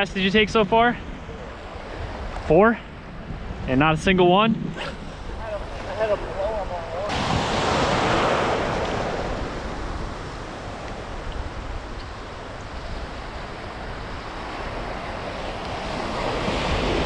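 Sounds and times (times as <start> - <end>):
surf waves breaking: 0.0 - 17.0
wind on microphone: 0.0 - 17.0.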